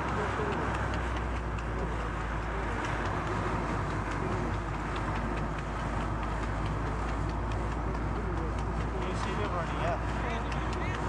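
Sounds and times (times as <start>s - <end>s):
car engine and road rumble: 0.0s - 11.0s
horse hooves on tarmac: 0.0s - 11.0s.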